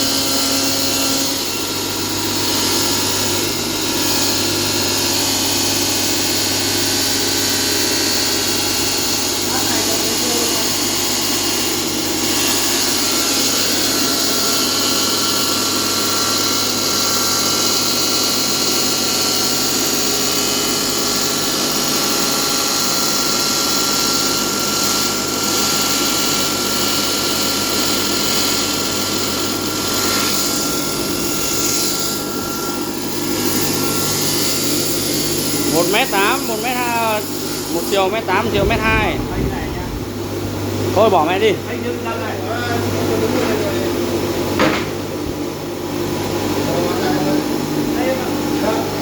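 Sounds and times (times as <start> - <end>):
tile cutting machine running: 0.0 - 49.0.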